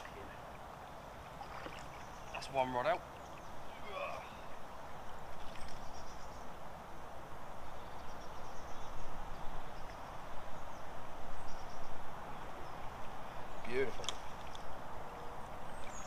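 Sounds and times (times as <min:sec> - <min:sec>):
small birds chirping: 0:00.0 - 0:06.6, 0:07.3 - 0:16.0
steady background hiss: 0:00.0 - 0:16.0.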